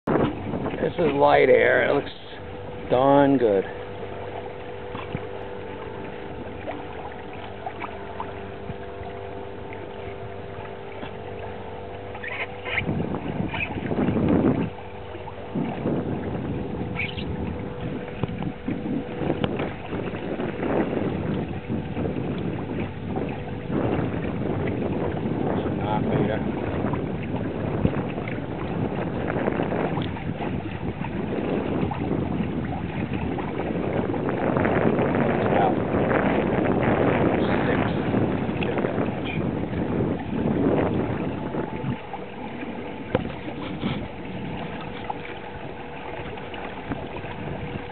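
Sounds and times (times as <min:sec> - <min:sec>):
water sloshing along hull: 0:00.0 - 0:47.9
wind buffeting microphone: 0:00.0 - 0:47.9.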